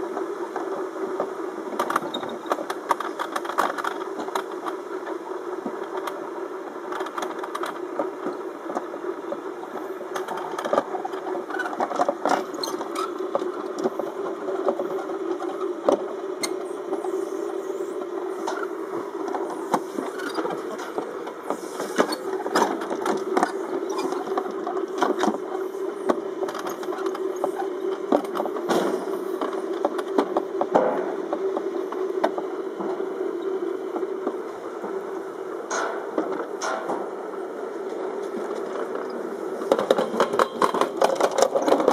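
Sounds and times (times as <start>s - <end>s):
sled rumbling down metal track: 6.8s - 41.9s.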